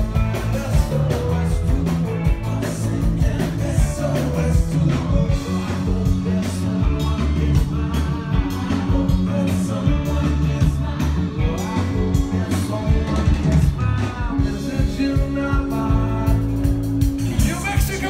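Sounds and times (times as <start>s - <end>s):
lead vocal singing: 0.0s - 18.0s
live rock band playing: 0.0s - 18.0s
steady drum beat: 0.0s - 18.0s.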